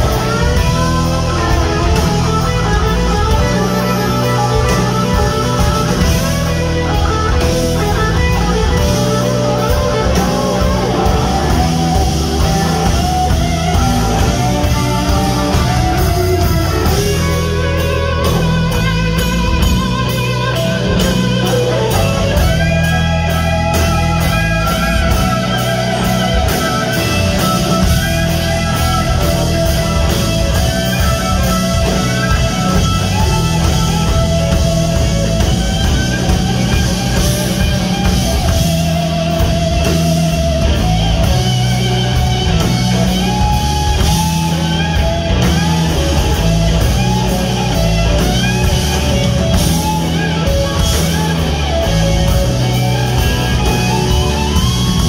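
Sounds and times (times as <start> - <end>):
drum kit: 0.0 - 55.0
electric bass: 0.0 - 55.0
electric guitar lead with bent notes: 0.0 - 55.0.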